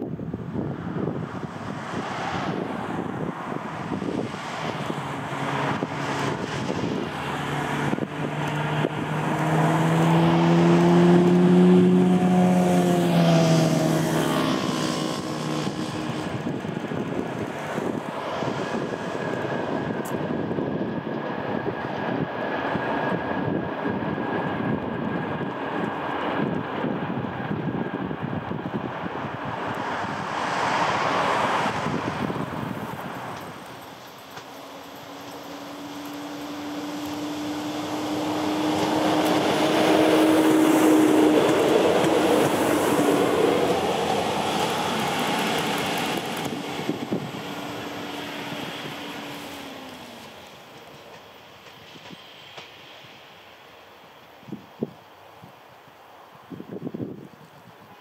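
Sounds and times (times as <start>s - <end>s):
locomotive drone: 0.0s - 58.0s.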